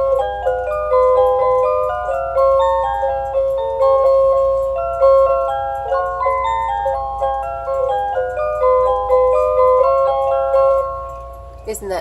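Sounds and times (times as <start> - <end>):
cuckoo clock call: 0.0 - 11.8
bell-like clock melody: 0.0 - 12.0.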